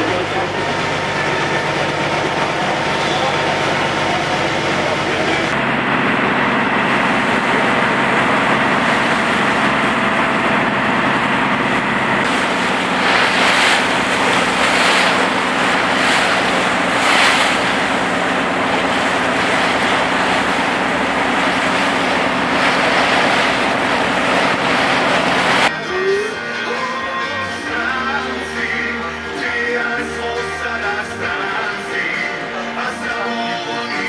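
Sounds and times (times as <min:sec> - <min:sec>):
boat engine running: 0:00.0 - 0:34.0
water rushing along hull: 0:00.0 - 0:34.0.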